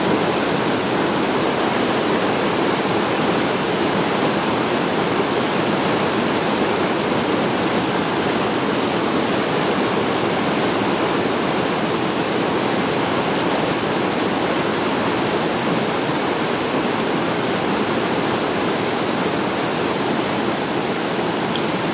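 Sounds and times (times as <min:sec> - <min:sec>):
stream rushing over boulders: 0:00.0 - 0:21.9.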